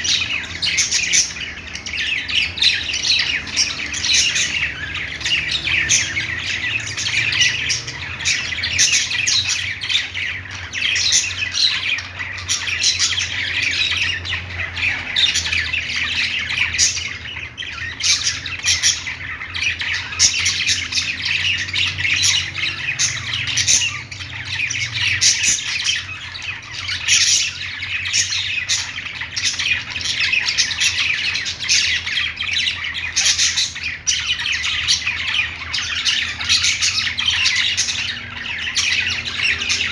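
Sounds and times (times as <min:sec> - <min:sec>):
budgies chirping: 0:00.0 - 0:39.9.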